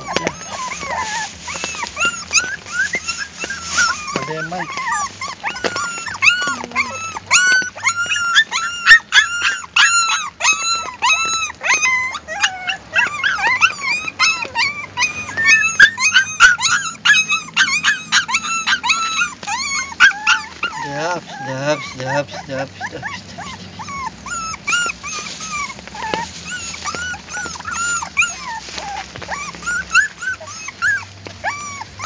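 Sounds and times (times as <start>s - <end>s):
puppies crying: 0.0s - 32.0s.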